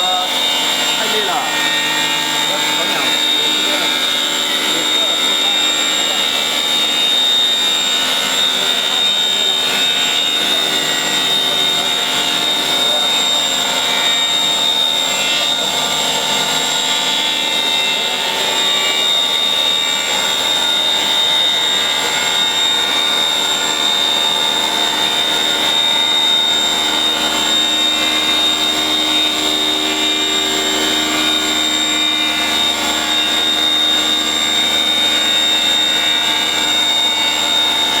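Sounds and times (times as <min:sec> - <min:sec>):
spindle high-pitched whine: 0:00.0 - 0:38.0.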